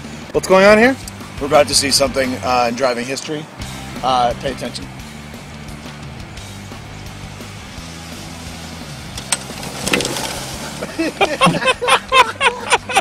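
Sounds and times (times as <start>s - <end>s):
golf cart driving: 0.0s - 13.0s.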